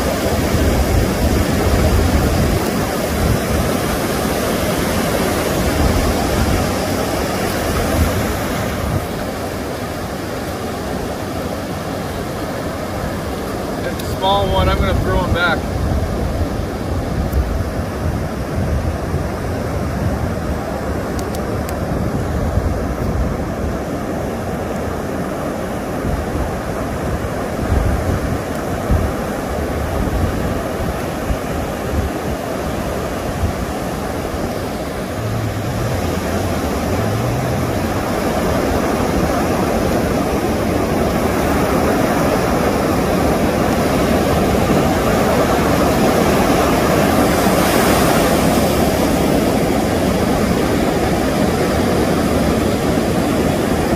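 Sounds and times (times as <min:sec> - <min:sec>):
surf breaking on beach: 0:00.0 - 0:53.9
wind on microphone: 0:00.0 - 0:53.9.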